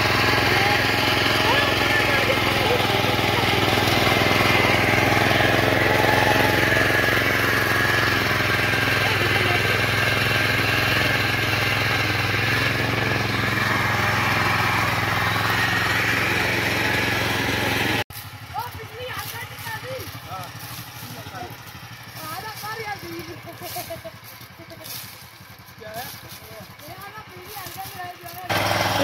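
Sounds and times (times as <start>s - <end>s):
small petrol engine running: 0.0s - 29.0s
tines digging through soil: 0.0s - 29.0s.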